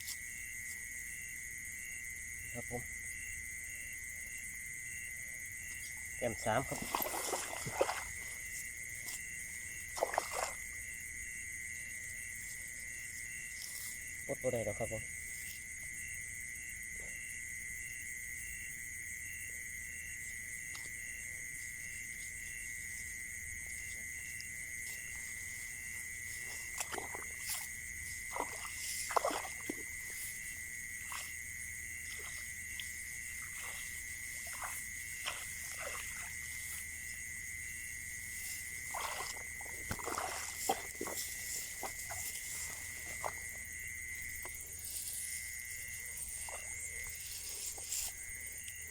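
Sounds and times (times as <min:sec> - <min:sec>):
insects and frogs trilling: 0:00.0 - 0:48.9.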